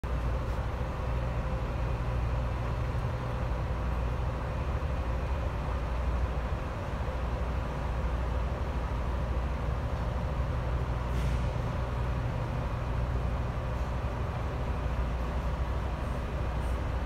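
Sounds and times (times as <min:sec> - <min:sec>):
boat engine drone: 0:00.1 - 0:17.0.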